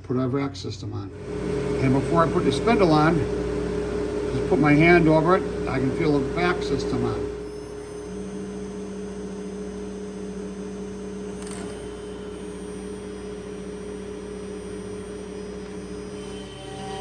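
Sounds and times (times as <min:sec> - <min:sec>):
dust collection vacuum humming: 0:00.0 - 0:17.0.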